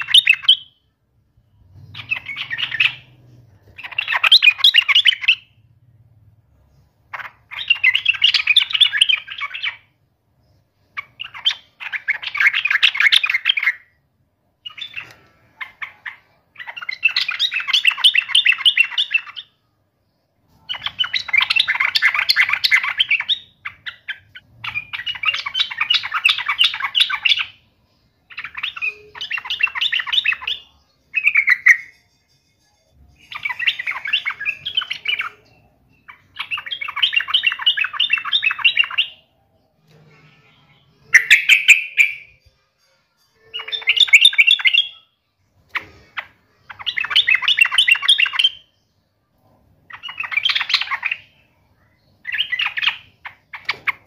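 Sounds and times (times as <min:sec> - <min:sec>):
bulbul singing: 0:00.0 - 0:06.1, 0:06.7 - 0:54.0.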